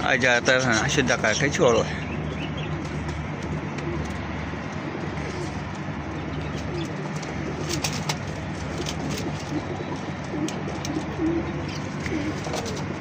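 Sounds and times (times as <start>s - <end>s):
low hum: 0.0s - 13.0s
pigeons cooing: 0.6s - 13.0s.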